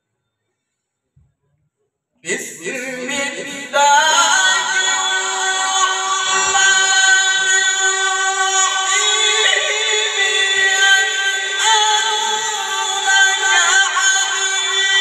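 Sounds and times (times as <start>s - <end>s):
man reciting melodically: 2.2s - 15.0s.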